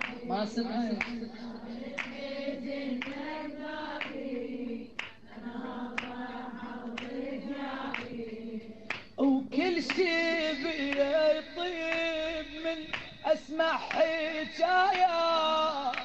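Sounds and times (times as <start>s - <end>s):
choir humming drone: 0.0s - 16.0s
singing lament: 0.0s - 16.0s.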